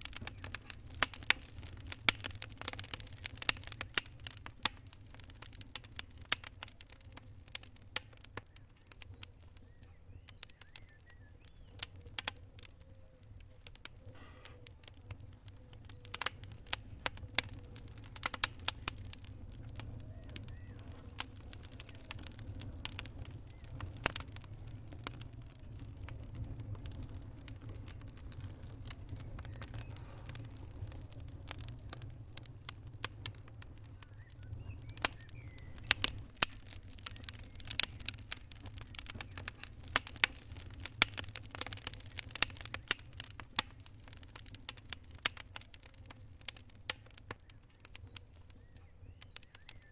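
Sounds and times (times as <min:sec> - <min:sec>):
fire crackling: 0:00.0 - 0:49.9
sharp pops and snaps: 0:00.0 - 0:49.9.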